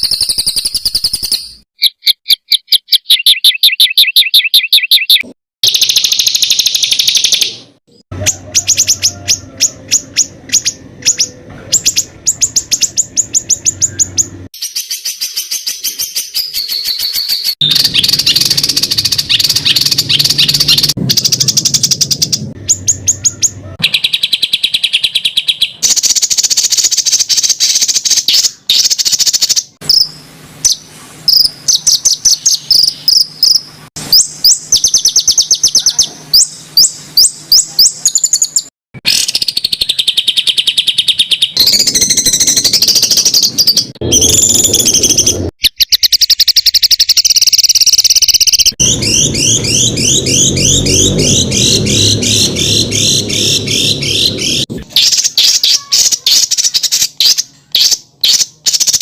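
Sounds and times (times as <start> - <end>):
songbird song with harsh trills: 0.0 - 59.0.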